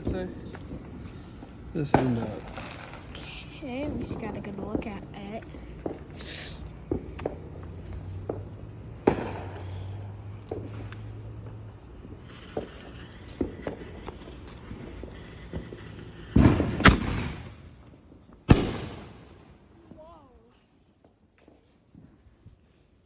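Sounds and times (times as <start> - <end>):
fireworks cracking and banging: 0.0 - 22.3
crickets chirping: 0.0 - 23.0.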